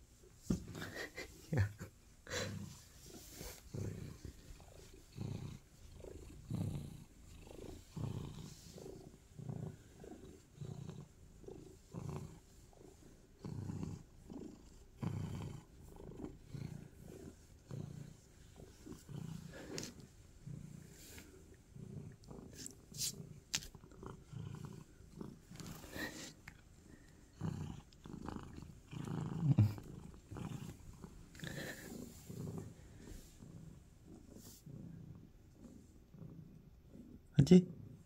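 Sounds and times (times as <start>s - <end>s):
cat purring: 0.4s - 38.0s.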